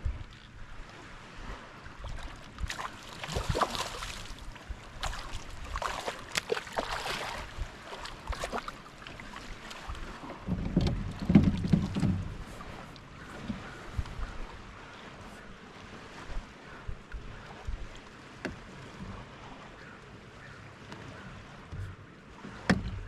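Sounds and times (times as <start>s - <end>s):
water splashing around kayak: 0.0s - 23.0s.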